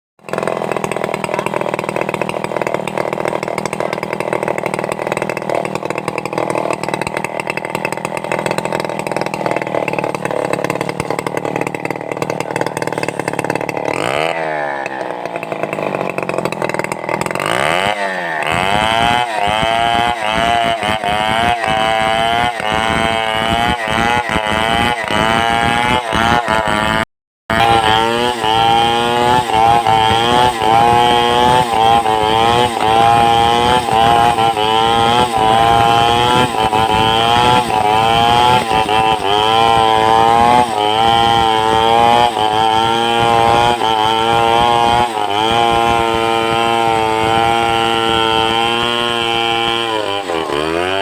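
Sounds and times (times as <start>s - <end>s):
chainsaw cutting timber: 0.2s - 51.0s.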